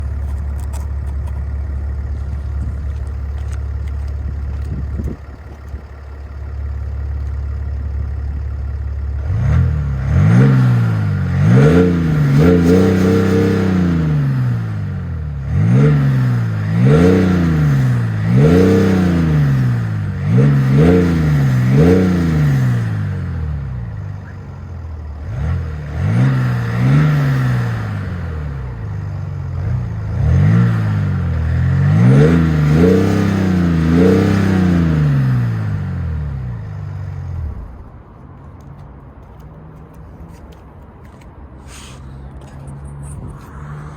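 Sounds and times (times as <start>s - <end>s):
diesel engine idling and revving: 0.0s - 43.9s.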